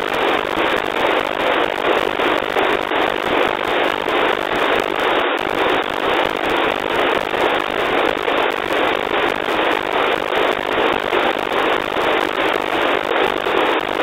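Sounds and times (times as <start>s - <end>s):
hissing radio static with pulsing: 0.0s - 14.0s.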